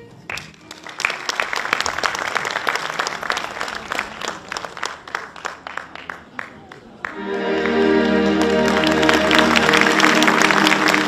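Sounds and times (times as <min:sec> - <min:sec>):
audience applauding: 0:00.3 - 0:11.0.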